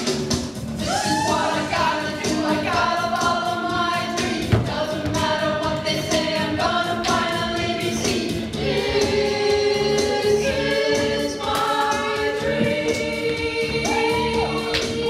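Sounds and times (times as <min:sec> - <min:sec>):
choir singing sustained notes: 0:01.3 - 0:15.0.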